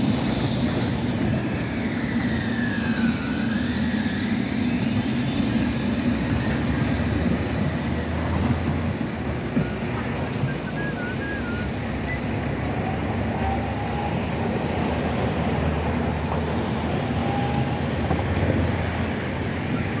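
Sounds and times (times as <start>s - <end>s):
city traffic noise: 0.0s - 20.0s
tram rumbling on tracks: 0.0s - 20.0s.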